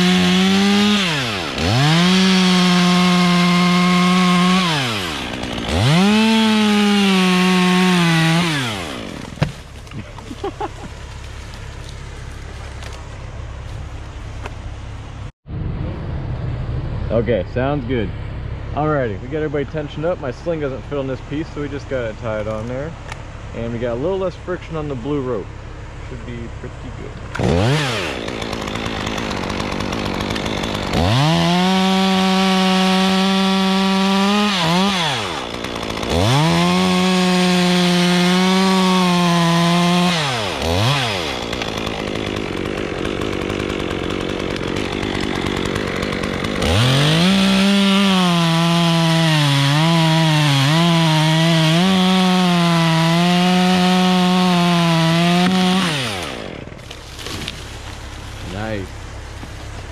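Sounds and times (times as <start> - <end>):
chainsaw revving and cutting wood: 0.0 - 14.9, 18.7 - 59.9.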